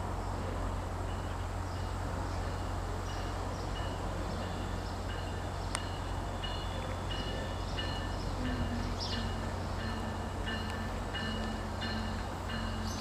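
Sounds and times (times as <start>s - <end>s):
distant train rumbling: 0.0s - 13.0s.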